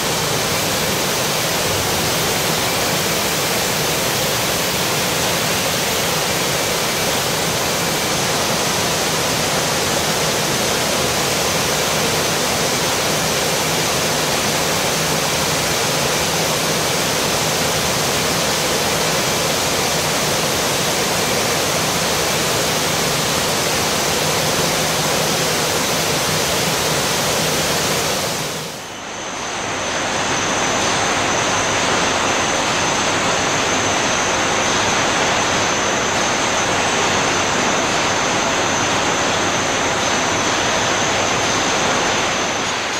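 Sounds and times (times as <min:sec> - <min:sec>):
factory hall hiss: 0:00.0 - 0:42.9.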